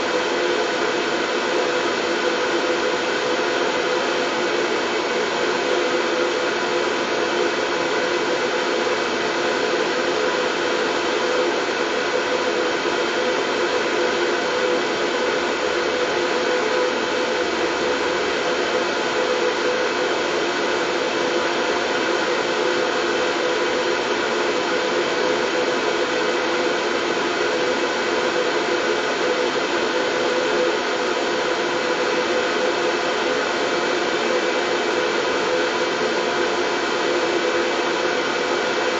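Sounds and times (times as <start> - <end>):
white noise: 0.0 - 38.9.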